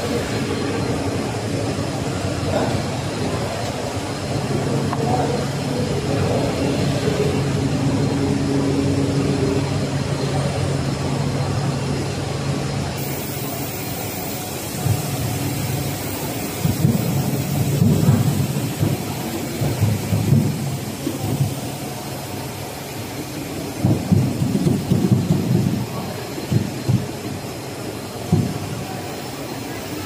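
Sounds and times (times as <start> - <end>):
production line machinery running: 0.0 - 30.0.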